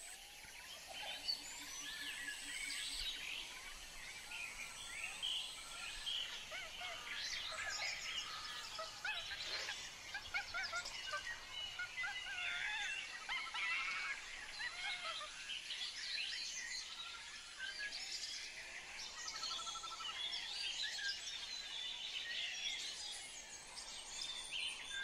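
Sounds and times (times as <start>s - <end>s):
birds chirping and calling: 0.8s - 25.0s.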